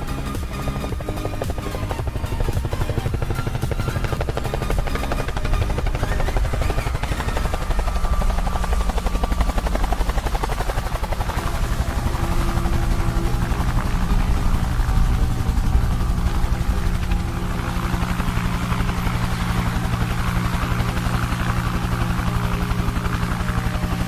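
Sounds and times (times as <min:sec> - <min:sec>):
helicopter rotor chopping: 0:00.0 - 0:24.0
low hum: 0:00.0 - 0:24.0.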